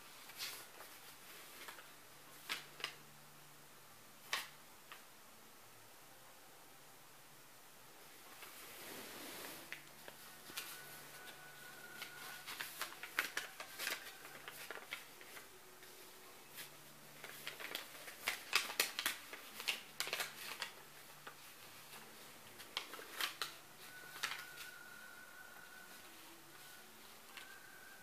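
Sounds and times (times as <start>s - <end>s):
paper crinkling: 0.0s - 3.0s, 8.3s - 28.0s
faint steady hum: 0.0s - 28.0s.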